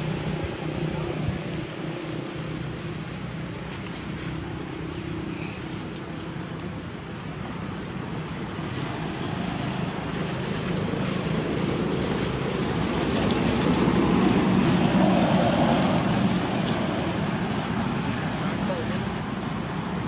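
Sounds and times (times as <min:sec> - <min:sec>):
constant high buzz: 0:00.0 - 0:20.0.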